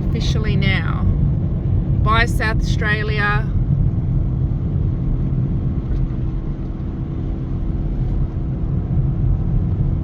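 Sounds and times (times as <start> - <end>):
car road and engine rumble: 0.0 - 10.0
faint constant hum: 0.0 - 10.0.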